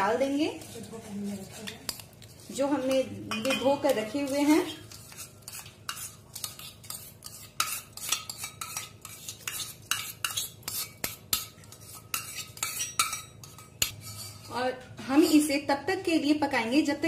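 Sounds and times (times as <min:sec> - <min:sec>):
spoon scraping steel vessels: 0:00.0 - 0:15.6.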